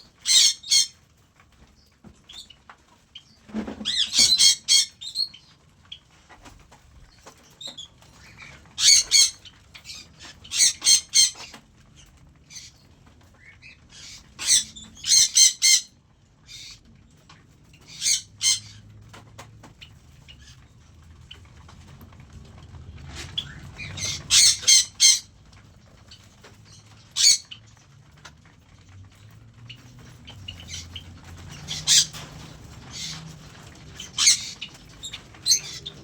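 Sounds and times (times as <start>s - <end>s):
cockatiels calling: 0.0s - 1.1s, 2.2s - 16.9s, 17.7s - 21.8s, 23.1s - 27.8s, 28.8s - 36.0s.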